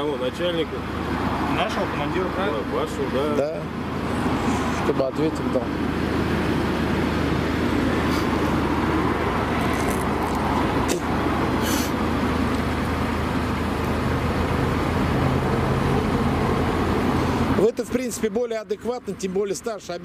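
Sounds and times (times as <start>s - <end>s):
road traffic engine hum: 0.0s - 20.0s.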